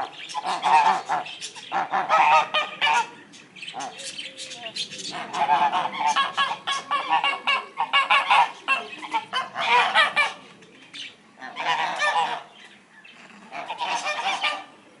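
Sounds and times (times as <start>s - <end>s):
geese honking: 0.0s - 10.5s, 11.4s - 12.6s, 13.4s - 14.8s.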